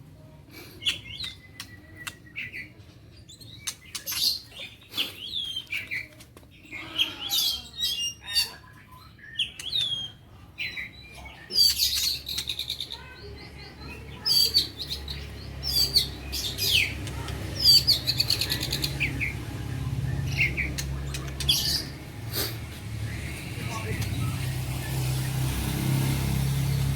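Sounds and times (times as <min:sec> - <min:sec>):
songbirds chirping and trilling: 0:00.0 - 0:26.9.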